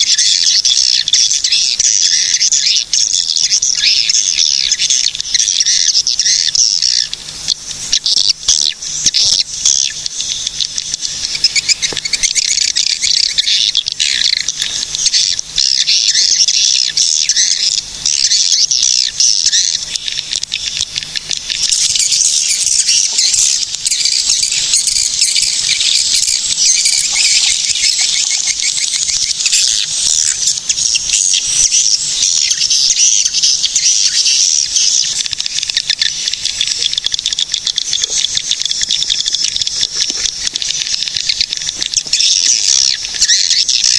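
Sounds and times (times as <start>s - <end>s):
swiftlets twittering: 0.0s - 43.9s.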